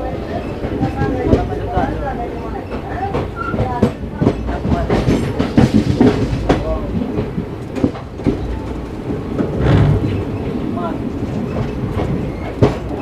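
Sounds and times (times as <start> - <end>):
faint voices: 0.0 - 13.0
train rumble: 0.0 - 13.0
train wheels clattering over rail joints: 0.3 - 13.0.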